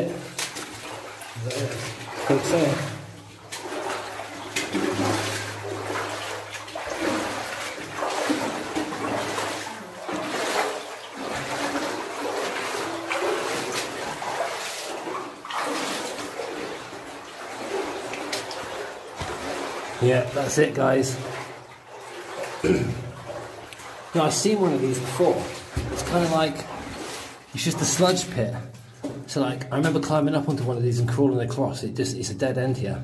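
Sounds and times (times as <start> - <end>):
boots wading through water: 0.0 - 30.7.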